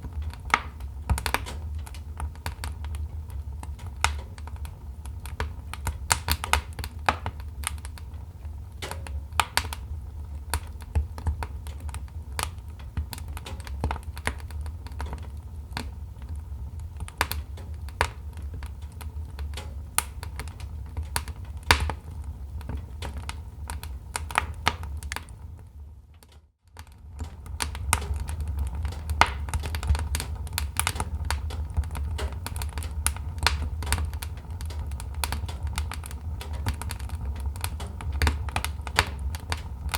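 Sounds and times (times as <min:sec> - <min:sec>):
low steady rumble: 0:00.0 - 0:39.9
wood fire crackling and popping: 0:00.0 - 0:39.9.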